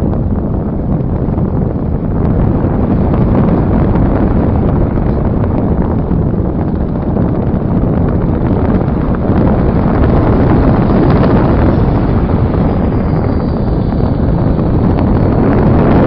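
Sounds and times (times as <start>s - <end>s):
airflow buffeting microphone: 0.0s - 16.0s.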